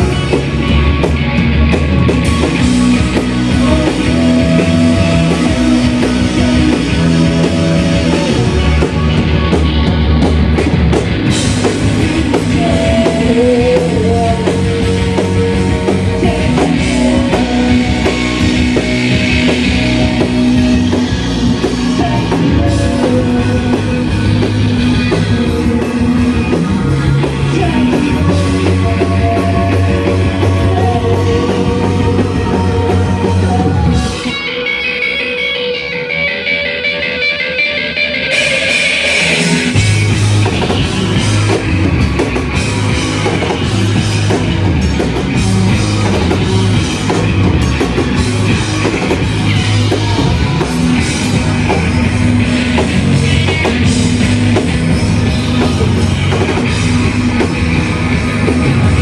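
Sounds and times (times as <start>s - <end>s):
shoegaze rock band playing live: 0.0s - 59.0s.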